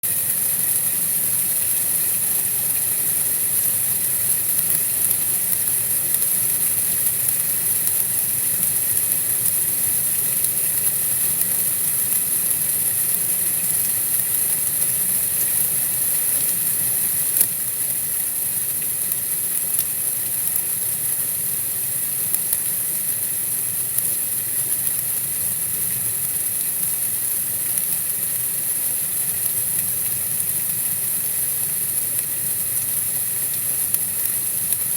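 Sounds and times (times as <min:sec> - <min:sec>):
white-noise hiss: 0:00.0 - 0:34.9.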